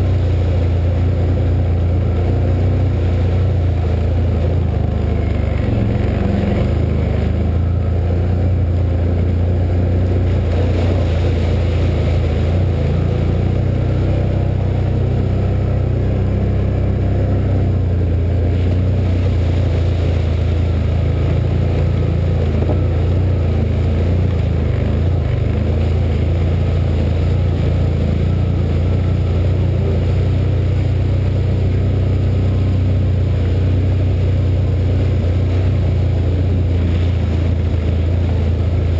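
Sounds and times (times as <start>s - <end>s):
atv engine running: 0.0s - 38.9s
water splashing around tyres: 0.0s - 38.9s.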